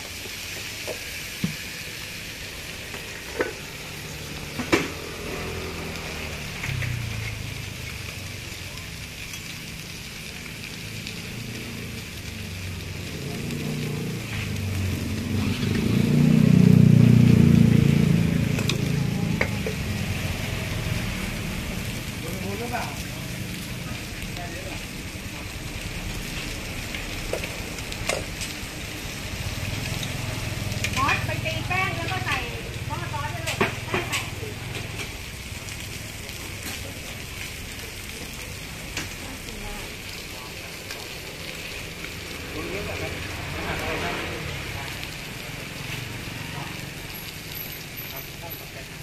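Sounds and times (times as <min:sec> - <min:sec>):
meat sizzling on a griddle: 0:00.0 - 0:49.0.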